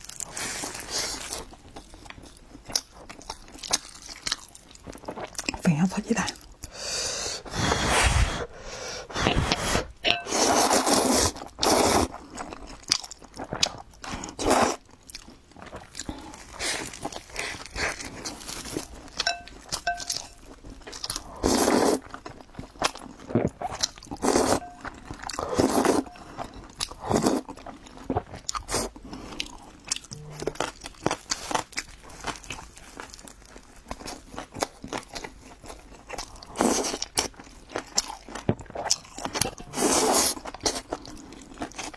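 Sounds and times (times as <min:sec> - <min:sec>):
person crunching and chewing food: 0:00.0 - 0:05.6, 0:08.6 - 0:41.9.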